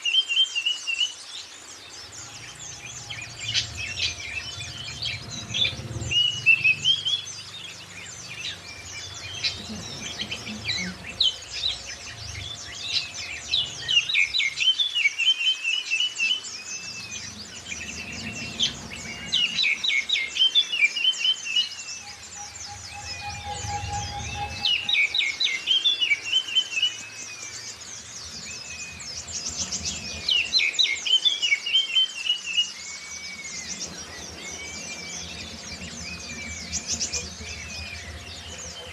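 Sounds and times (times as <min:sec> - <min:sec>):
magpie-robin song: 0:00.0 - 0:38.9
white-eye calls: 0:01.7 - 0:38.9.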